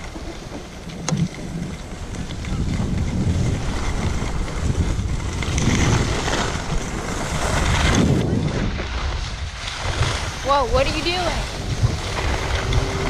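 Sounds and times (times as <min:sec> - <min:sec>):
skis sliding on snow: 0:00.0 - 0:13.0
wind buffeting microphone: 0:00.0 - 0:13.0.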